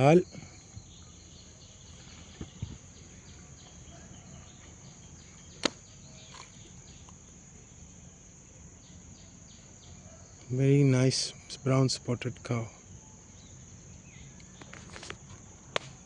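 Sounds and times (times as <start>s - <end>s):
faint chirps: 0.0s - 16.0s
high insect drone: 0.0s - 16.0s.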